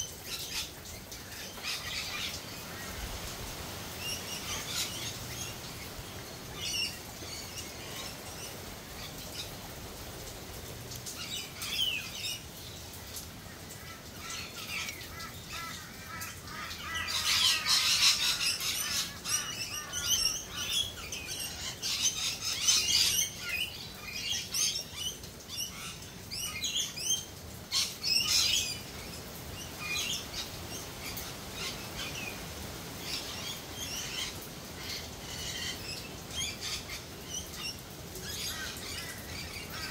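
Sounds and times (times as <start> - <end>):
birds chirping and calling: 0.0 - 39.9
faint background hiss: 0.0 - 39.9.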